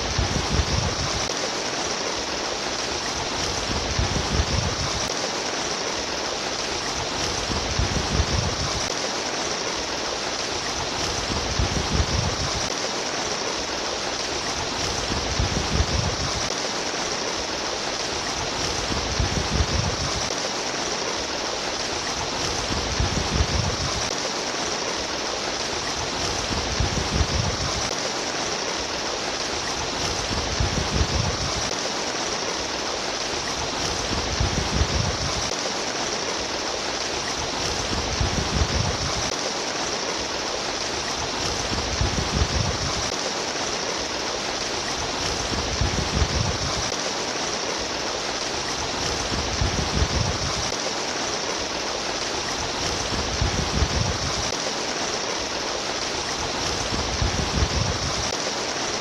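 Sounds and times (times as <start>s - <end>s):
low rush of water: 0.0s - 59.0s
water trickling and splashing: 0.0s - 59.0s.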